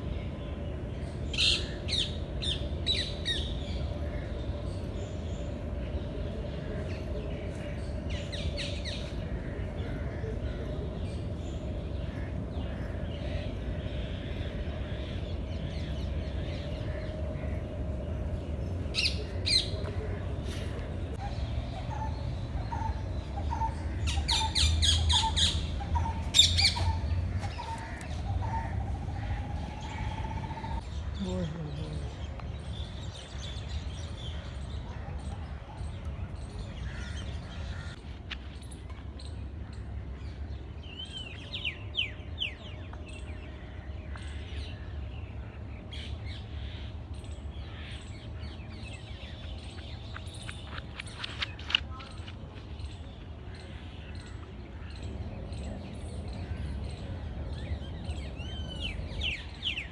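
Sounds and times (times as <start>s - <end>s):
birds chirping: 0.0s - 59.9s
steady low rumble: 0.0s - 59.9s.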